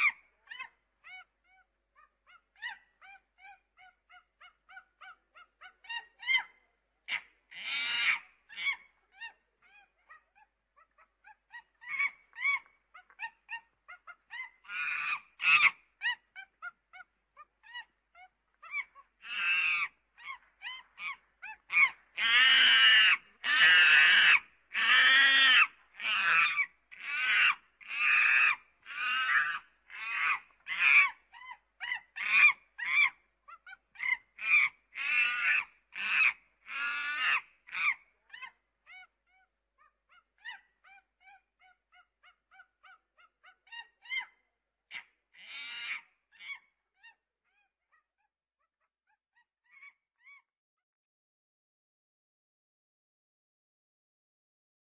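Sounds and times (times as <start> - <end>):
chimpanzee calling and screaming: 0.0 - 50.5.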